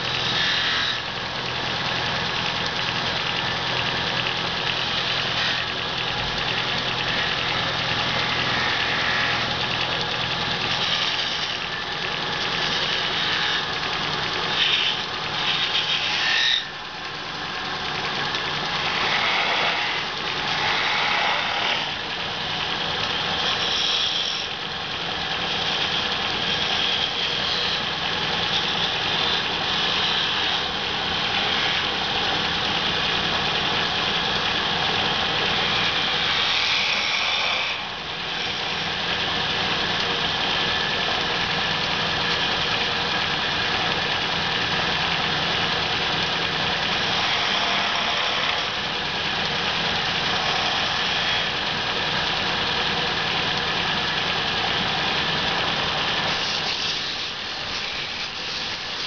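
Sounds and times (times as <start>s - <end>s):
chisel shaving spinning wood: 0.0s - 59.0s
lathe motor running: 0.0s - 59.0s.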